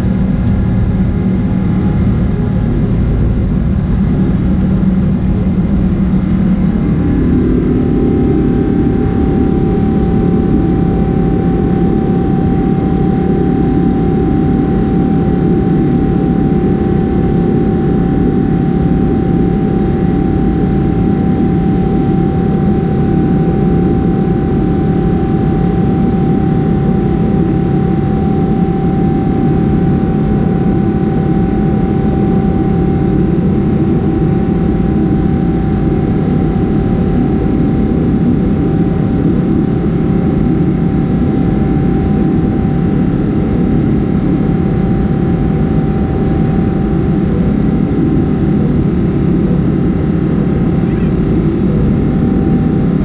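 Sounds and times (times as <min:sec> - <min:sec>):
jet engine roar in cabin: 0:00.0 - 0:53.0
mid-pitched whine: 0:00.0 - 0:53.0.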